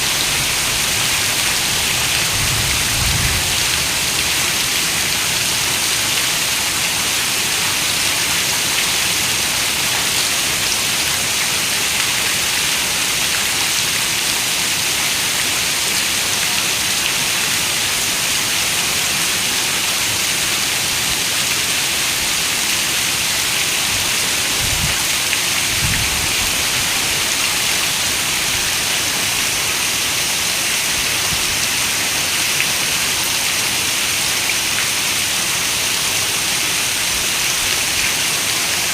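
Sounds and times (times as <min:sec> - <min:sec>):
heavy rain on a window: 0:00.0 - 0:38.9.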